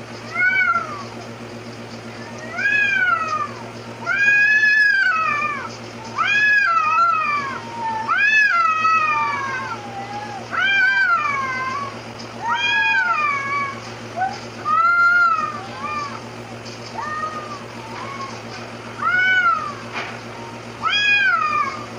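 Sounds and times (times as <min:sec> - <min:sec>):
cats yowling: 0:00.0 - 0:21.9.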